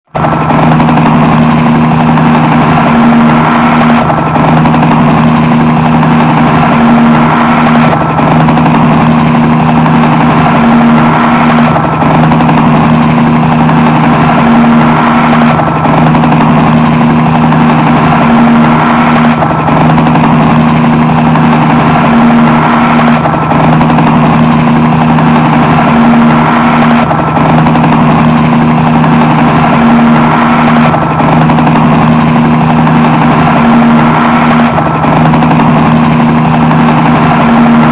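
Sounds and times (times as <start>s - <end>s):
helicopter engine drone: 0.0s - 37.9s.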